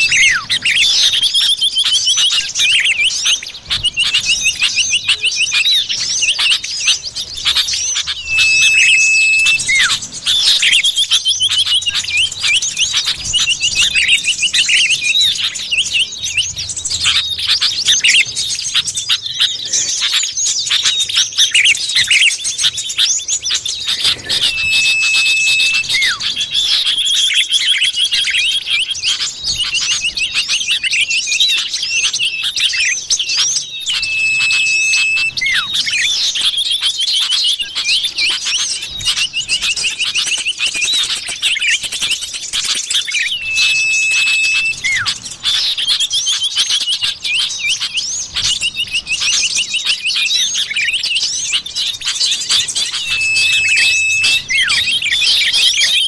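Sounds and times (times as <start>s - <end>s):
long flat bird whistle: 0.0s - 56.0s
rapid high bird chirps and trills: 0.0s - 56.0s.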